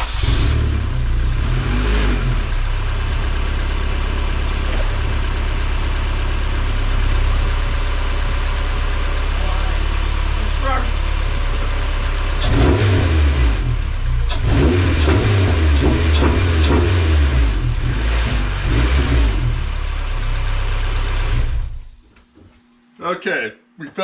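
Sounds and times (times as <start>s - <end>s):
race car engine revving: 0.0s - 5.9s, 6.5s - 21.8s.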